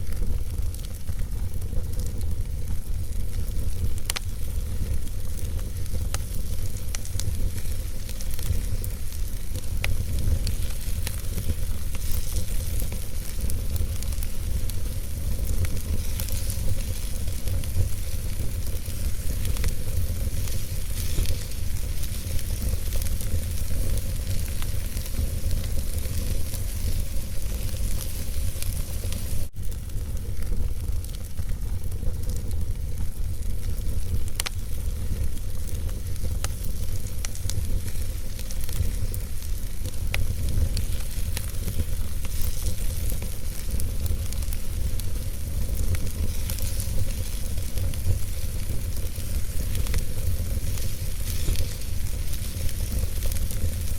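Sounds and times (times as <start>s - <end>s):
wood fire crackling and hissing: 0.0s - 53.9s.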